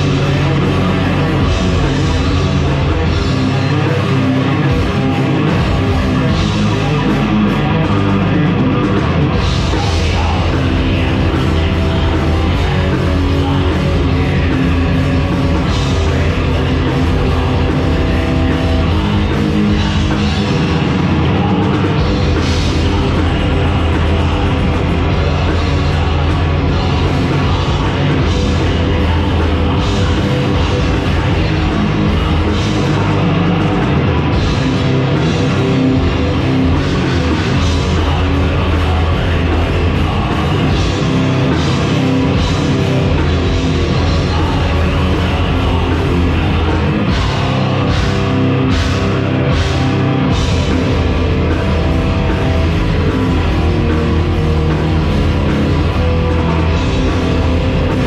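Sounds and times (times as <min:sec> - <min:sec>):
distorted electric guitar: 0:00.0 - 0:58.0
pounding drum kit: 0:00.0 - 0:58.0.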